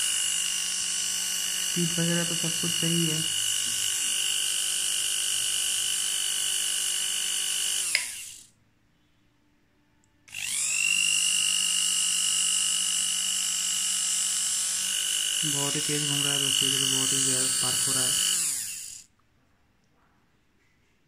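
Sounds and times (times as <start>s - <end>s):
angle grinder whining: 0.0s - 8.5s, 10.3s - 19.1s.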